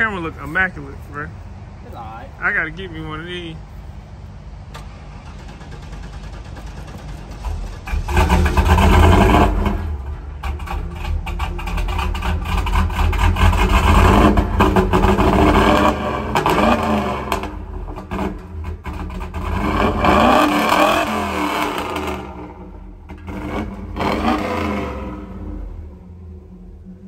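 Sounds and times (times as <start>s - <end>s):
car engine revving: 2.4s - 27.0s.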